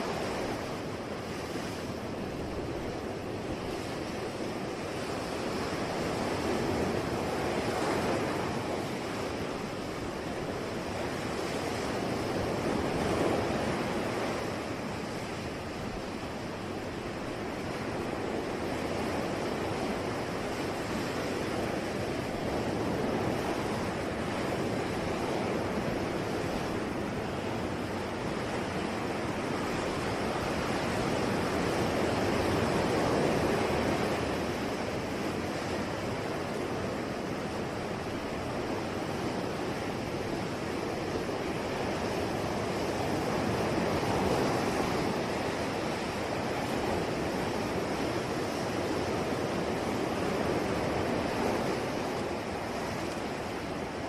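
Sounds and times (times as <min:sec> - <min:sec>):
ocean waves washing on shore: 0:00.0 - 0:54.0.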